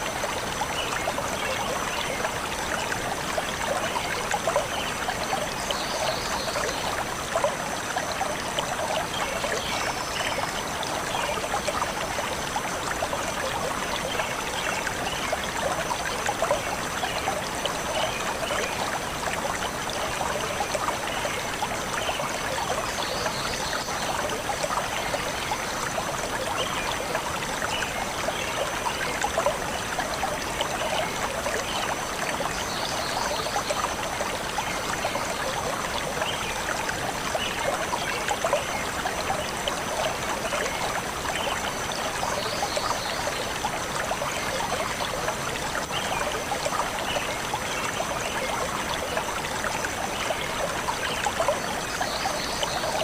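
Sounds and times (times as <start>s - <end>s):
stream babbling: 0.0s - 53.0s.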